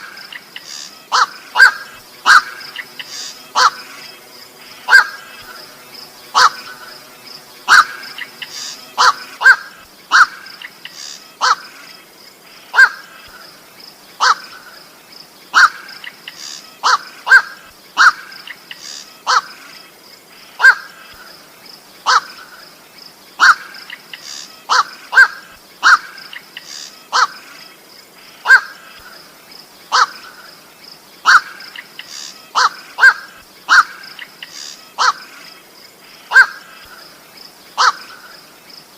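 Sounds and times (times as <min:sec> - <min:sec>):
bird harsh calls: 0:00.0 - 0:21.3, 0:22.0 - 0:22.8, 0:23.4 - 0:30.6, 0:31.2 - 0:38.6.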